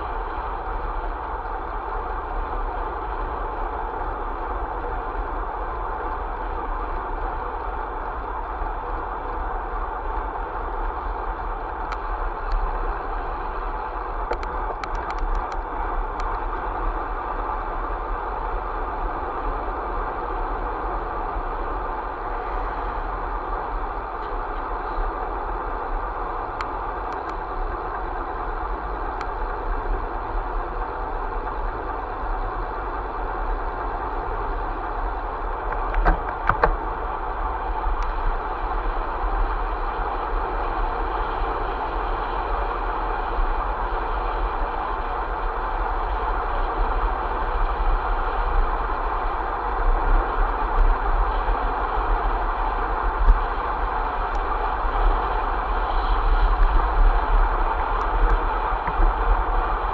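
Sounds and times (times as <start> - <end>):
vehicle driving at speed: 0.0 - 59.9.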